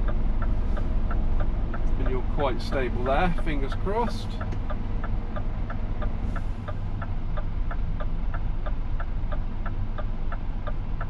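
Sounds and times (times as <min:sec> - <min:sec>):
diesel engine rumble: 0:00.0 - 0:11.0
indicator ticking: 0:00.0 - 0:11.0.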